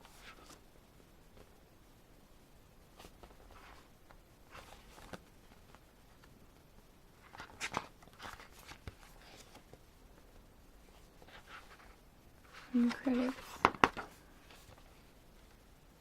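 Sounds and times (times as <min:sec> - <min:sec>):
photobook pages rustling: 0:00.0 - 0:00.6, 0:02.9 - 0:15.6.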